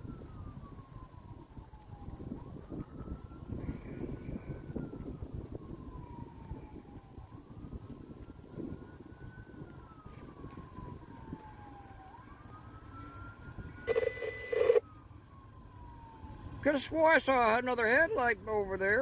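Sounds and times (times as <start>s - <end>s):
distant siren wailing: 0.0s - 19.0s.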